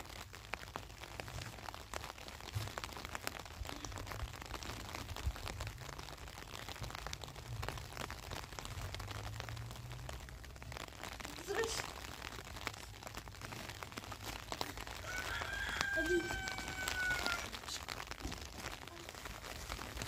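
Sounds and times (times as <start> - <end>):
cloth and cord rustling: 0.0 - 20.0.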